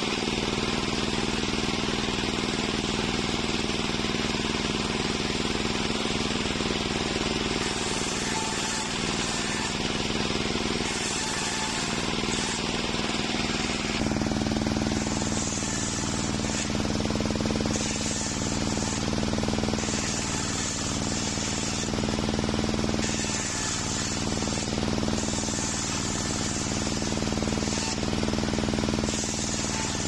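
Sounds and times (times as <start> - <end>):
table saw cutting wood: 0.0 - 30.0.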